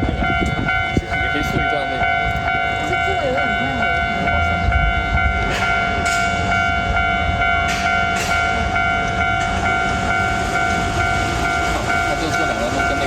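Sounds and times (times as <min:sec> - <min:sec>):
low rumble: 0:00.0 - 0:12.0
level crossing bell ringing: 0:00.0 - 0:13.0.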